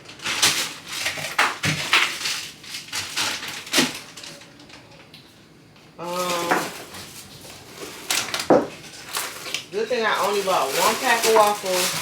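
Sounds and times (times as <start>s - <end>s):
plastic packaging crinkling: 0.0s - 5.2s, 6.0s - 12.0s.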